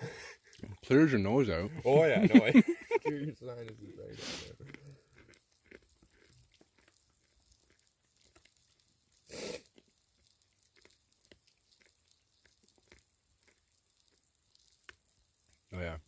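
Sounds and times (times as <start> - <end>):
crunchy chewing: 0.0 - 16.0.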